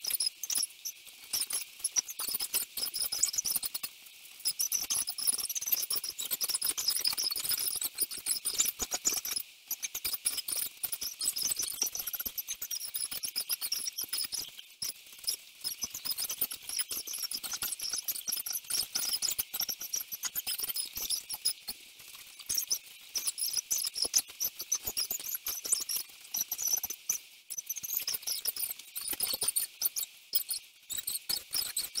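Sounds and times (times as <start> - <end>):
sped-up squeaky chirps and clicks: 0.0 - 32.0.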